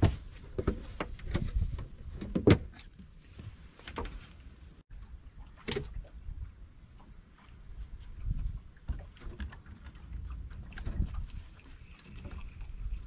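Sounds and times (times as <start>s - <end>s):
wind rumble on microphone: 0.0s - 2.7s, 3.3s - 13.0s.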